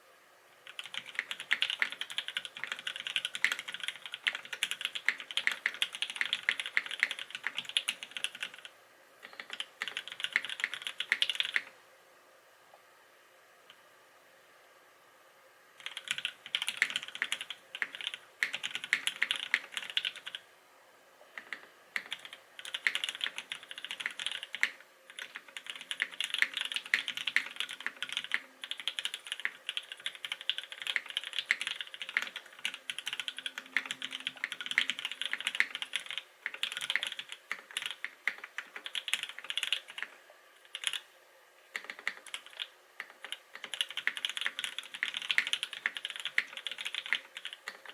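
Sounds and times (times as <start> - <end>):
typing on mechanical keyboard: 0.7 - 11.7, 15.8 - 20.4, 21.4 - 41.1, 41.8 - 47.9.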